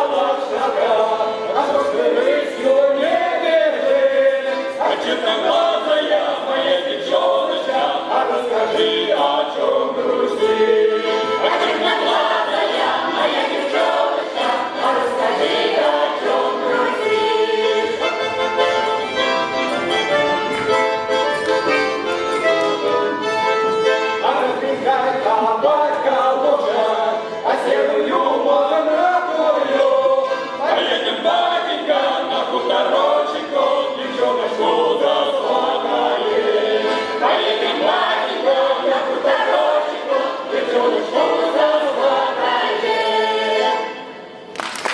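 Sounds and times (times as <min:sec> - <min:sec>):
accordion: 0:00.0 - 0:44.4
choir singing folk song: 0:00.0 - 0:44.5.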